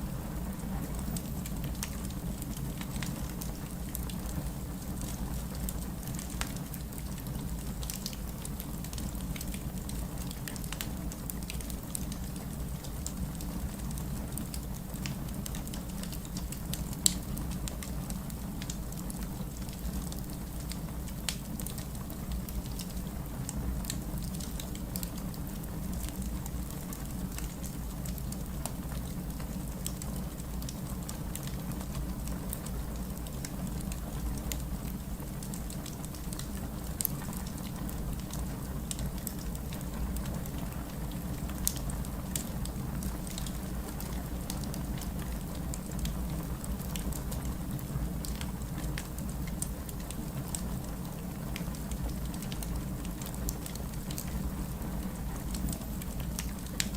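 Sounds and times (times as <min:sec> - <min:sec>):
wood fire crackling and popping: 0:00.1 - 0:56.9.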